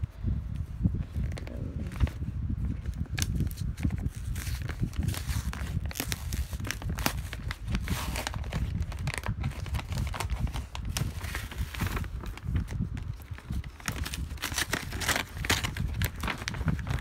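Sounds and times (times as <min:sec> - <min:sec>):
paper bag crinkling: 0:02.8 - 0:17.0.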